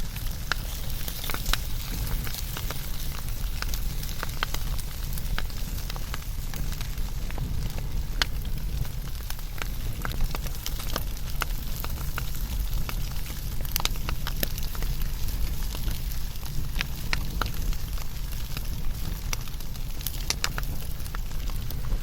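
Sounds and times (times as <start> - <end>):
low rumble of flame: 0.0 - 22.0
wood fire crackling and popping: 0.0 - 22.0.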